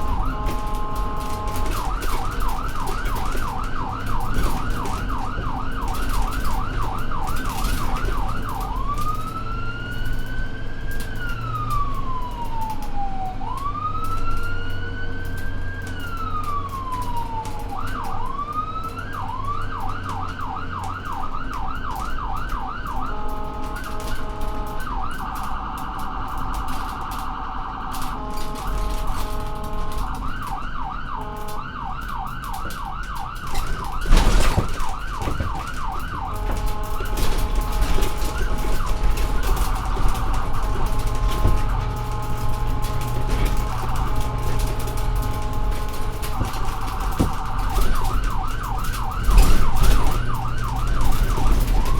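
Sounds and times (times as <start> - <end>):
emergency vehicle siren: 0.0 - 51.9.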